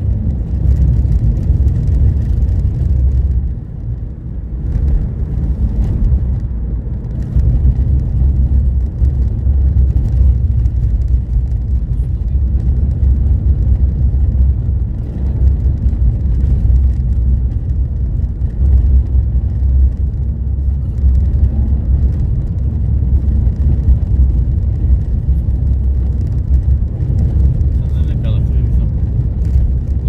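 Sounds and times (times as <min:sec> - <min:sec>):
car tyre and engine noise: 0:00.0 - 0:30.0.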